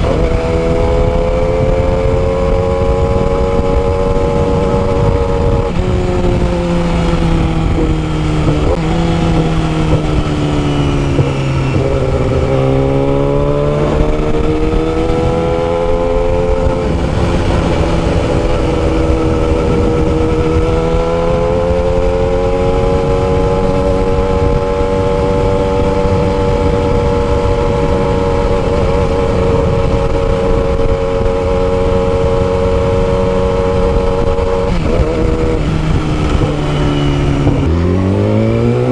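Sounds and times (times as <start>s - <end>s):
motorcycle engine: 0.0s - 38.9s
wind rush on microphone: 0.0s - 38.9s.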